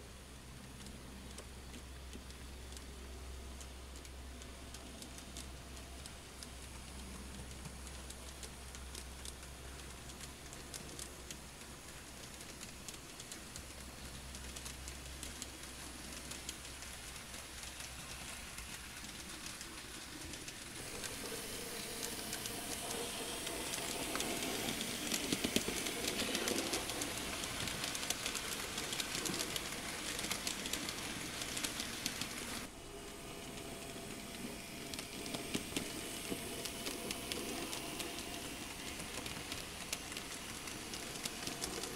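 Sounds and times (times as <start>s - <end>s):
model train wheels clicking: 0.0s - 41.9s
model train motor running: 4.8s - 41.9s.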